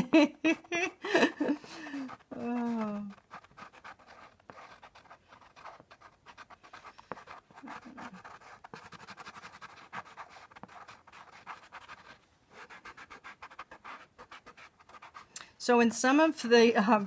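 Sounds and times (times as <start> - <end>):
pencil scratching on paper: 0.5 - 15.3, 16.2 - 17.0.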